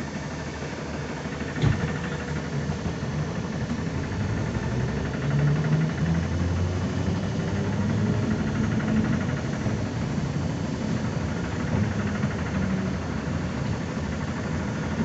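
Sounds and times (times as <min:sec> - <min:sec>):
trolleybus running noise: 0:00.0 - 0:15.0.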